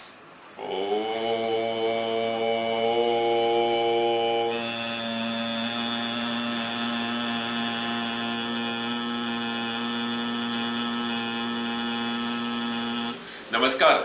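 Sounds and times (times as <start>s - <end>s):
sustained drone note: 0.6s - 13.3s.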